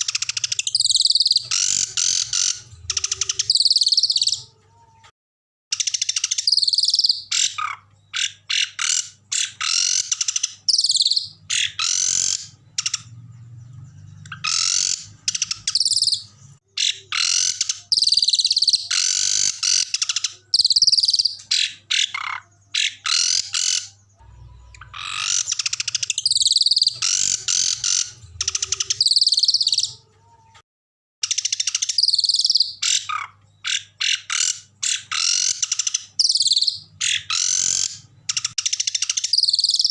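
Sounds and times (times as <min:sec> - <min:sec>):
small songbirds singing: 0:00.0 - 0:05.1, 0:05.7 - 0:30.6, 0:31.2 - 0:39.9.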